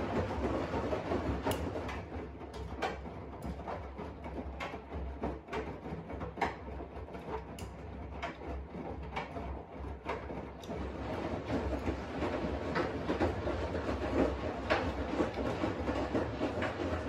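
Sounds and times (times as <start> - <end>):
washing machine hum: 0.0 - 17.0
washing machine knocks and clacks: 0.0 - 17.0.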